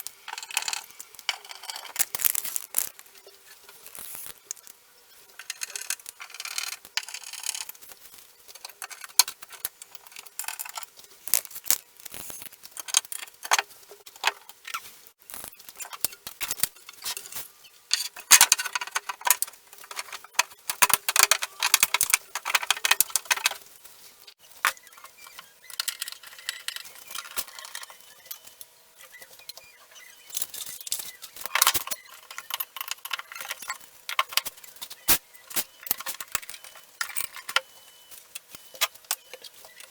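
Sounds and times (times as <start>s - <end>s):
parts clicking and knocking: 0.0s - 4.8s, 5.4s - 14.8s, 15.7s - 23.7s, 24.6s - 29.7s, 30.3s - 39.9s.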